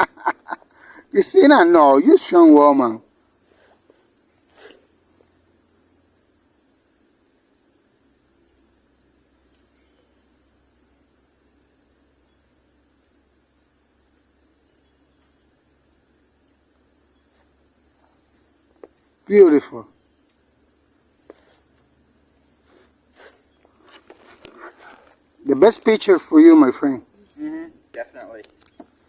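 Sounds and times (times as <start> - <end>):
insects trilling at night: 0.0 - 29.0.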